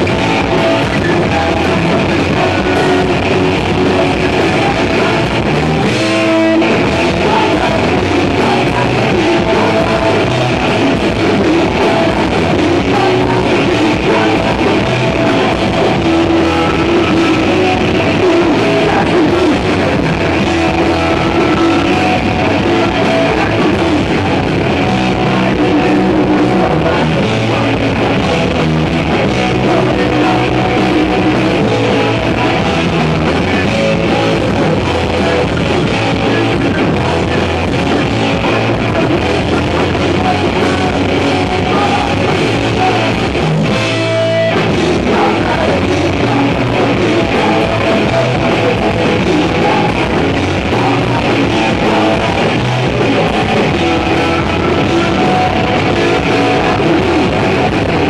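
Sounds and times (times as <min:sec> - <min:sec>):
person singing: 0:00.0 - 0:58.0
punk rock band playing: 0:00.0 - 0:58.0.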